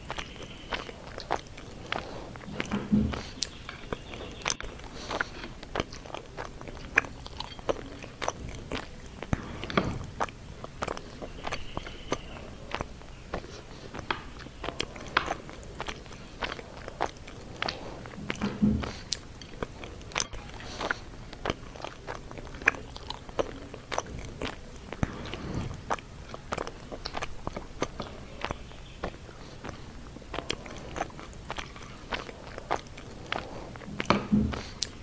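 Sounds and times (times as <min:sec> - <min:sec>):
person chewing with mouth clicks: 0:00.0 - 0:35.0.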